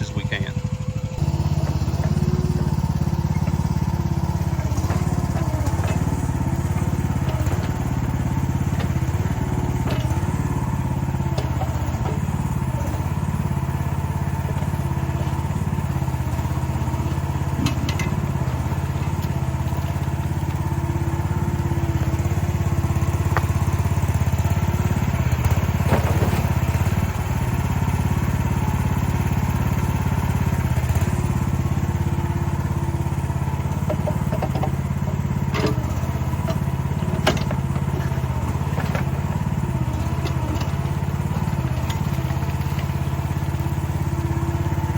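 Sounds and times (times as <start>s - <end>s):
small excavator engine running: 0.0s - 44.9s.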